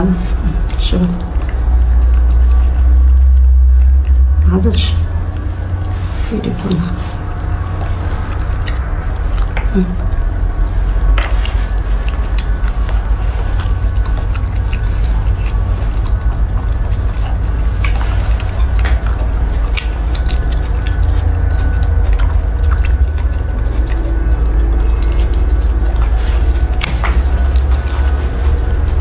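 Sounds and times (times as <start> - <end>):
steady low rumble: 0.0 - 29.0
chewing mouth clicks and smacks: 0.1 - 29.0.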